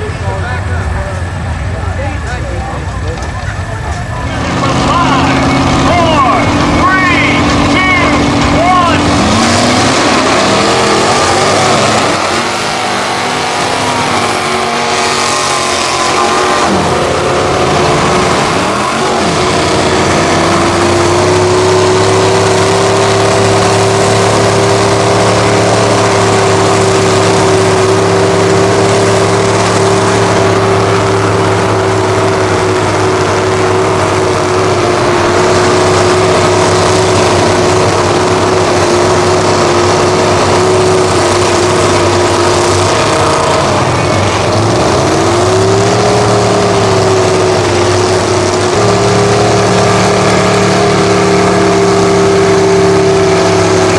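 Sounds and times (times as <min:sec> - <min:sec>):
off-road vehicle engine running hard: 0:00.0 - 0:53.9.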